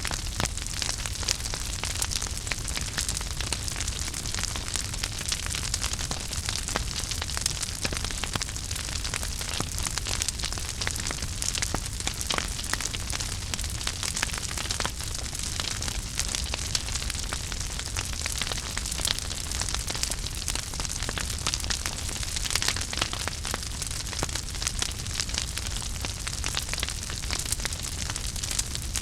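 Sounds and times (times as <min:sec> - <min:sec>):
fire low rumble and hiss: 0:00.0 - 0:29.0
wood fire crackling and popping: 0:00.0 - 0:29.0.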